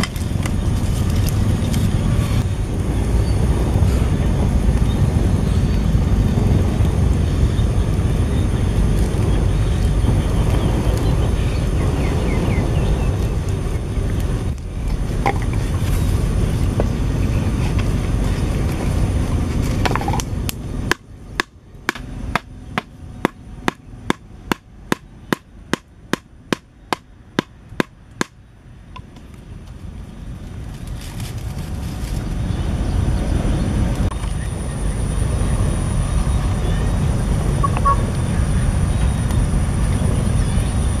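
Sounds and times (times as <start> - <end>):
low rumbling noise: 0.0 - 41.0.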